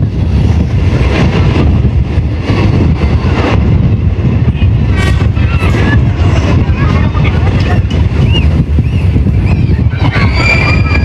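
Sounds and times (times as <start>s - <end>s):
train rumbling: 0.0s - 11.0s
wind buffeting microphone: 0.0s - 11.0s.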